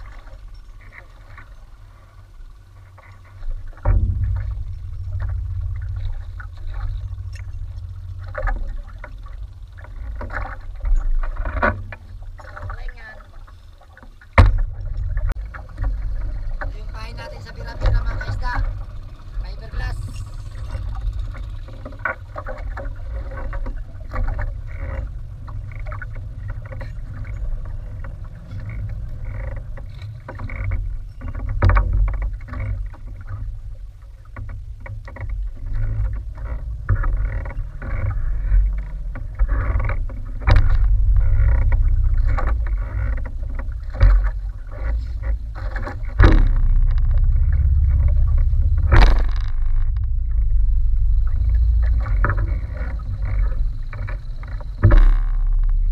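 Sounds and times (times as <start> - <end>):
knocks and clicks from boat: 0.0 - 55.9
wind and water against hull: 0.0 - 55.9.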